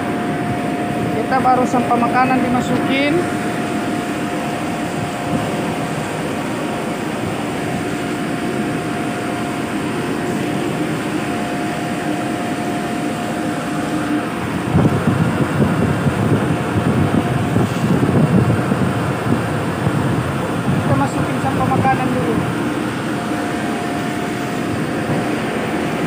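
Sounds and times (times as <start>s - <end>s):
blower machinery hum: 0.0s - 26.0s.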